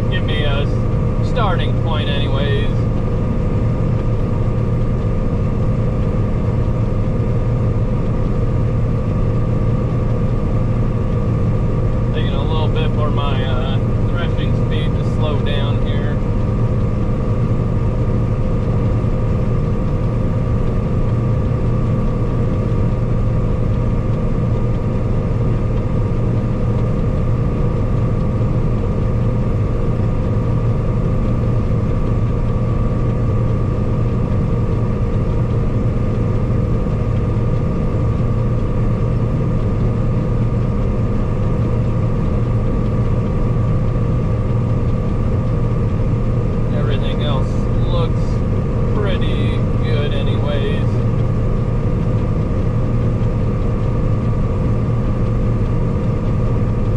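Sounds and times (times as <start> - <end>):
combine harvester droning: 0.0 - 56.9.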